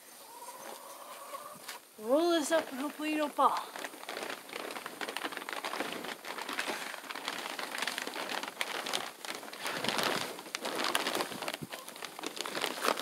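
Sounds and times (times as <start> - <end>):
plastic sheeting crinkling: 1.7 - 13.0.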